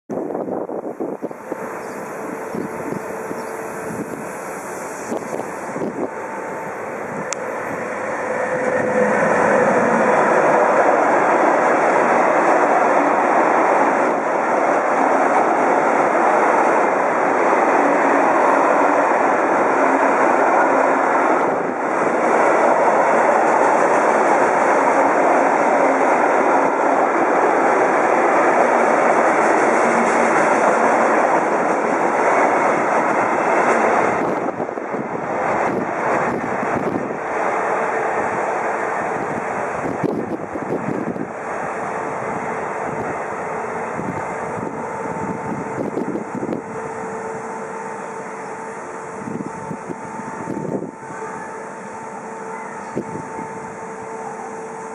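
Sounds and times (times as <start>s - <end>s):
freight train passing: 0.1s - 54.9s.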